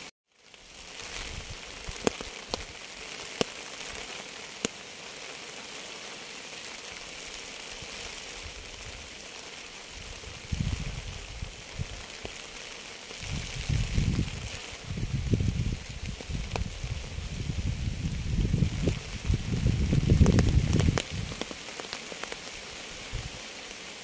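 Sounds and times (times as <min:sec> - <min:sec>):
steady rain hiss: 0:00.0 - 0:24.0
sharp ticks of raindrops: 0:00.4 - 0:24.0.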